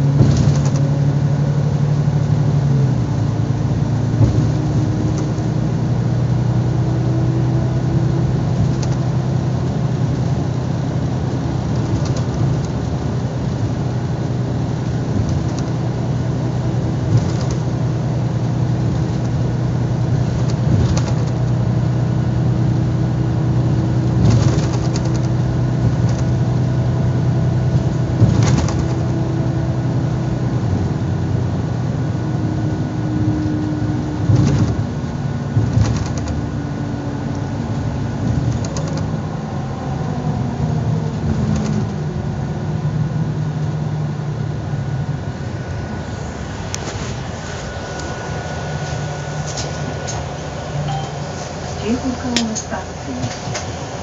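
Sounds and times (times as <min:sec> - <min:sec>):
bus engine hum: 0:00.0 - 0:54.0
road noise: 0:00.0 - 0:54.0.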